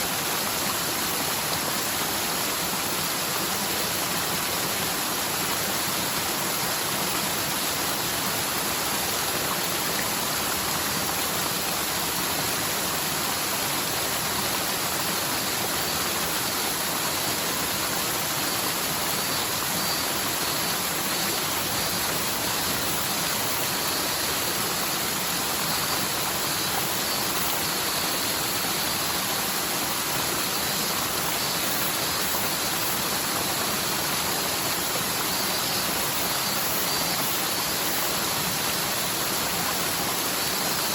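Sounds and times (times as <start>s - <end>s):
stream rushing and splashing: 0.0s - 40.9s.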